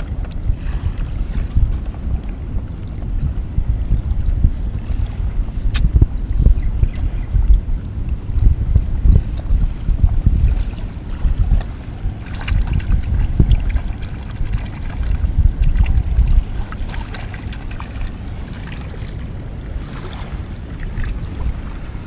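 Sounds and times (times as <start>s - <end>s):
surf at shoreline: 0.0s - 22.0s
wind rumbling on microphone: 0.0s - 22.0s.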